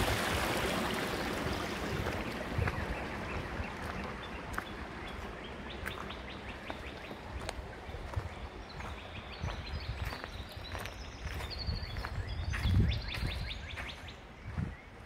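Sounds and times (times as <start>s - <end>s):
creek water over stones: 0.0s - 12.8s
small birds chirping: 0.9s - 15.0s.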